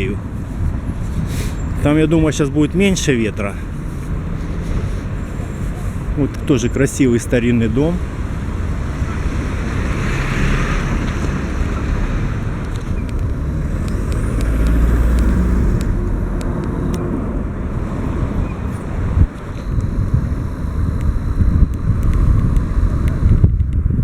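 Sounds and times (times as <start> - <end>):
gusty wind buffeting microphone: 0.0 - 24.0
road traffic passing: 0.0 - 24.0.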